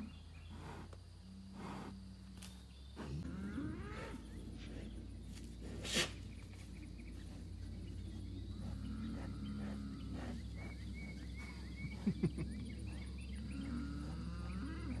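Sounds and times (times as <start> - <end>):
birds chirping: 0.0 - 15.0
insects pulsing: 0.0 - 15.0
low steady rumble: 0.0 - 15.0.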